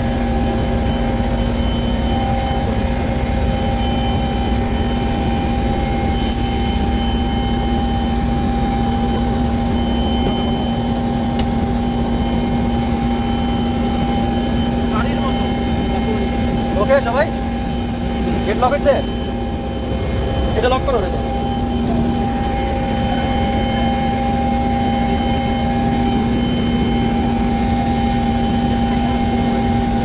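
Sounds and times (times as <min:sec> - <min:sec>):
helicopter engine and rotor roar: 0:00.0 - 0:30.0
steady whining tones: 0:00.0 - 0:30.0.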